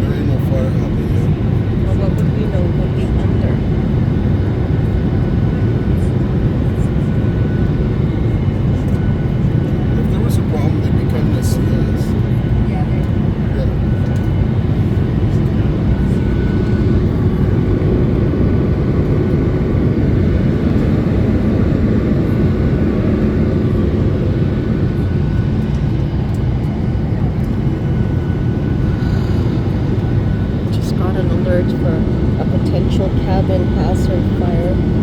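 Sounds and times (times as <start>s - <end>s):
airliner engines rumbling: 0.0s - 35.0s
faint steady hums: 6.0s - 35.0s.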